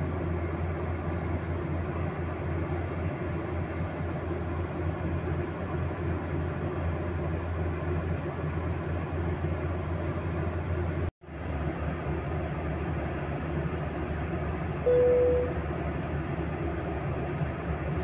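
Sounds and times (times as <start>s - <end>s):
airplane cabin engine drone: 0.0s - 18.0s.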